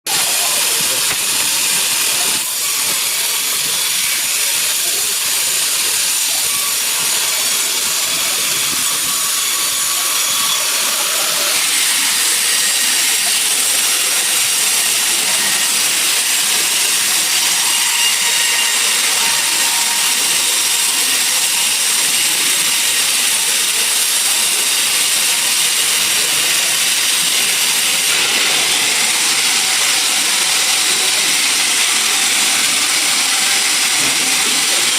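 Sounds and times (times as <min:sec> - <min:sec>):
sawmill saw cutting log: 0:00.1 - 0:34.9.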